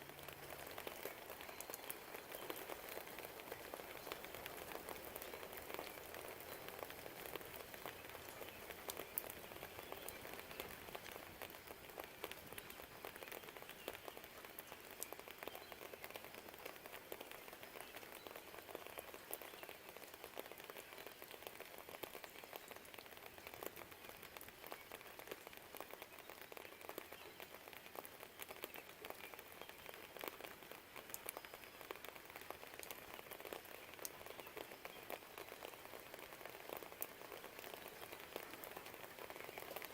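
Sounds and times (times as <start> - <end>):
faint rain hiss: 0.0 - 39.9
raindrops clicking: 0.0 - 39.9.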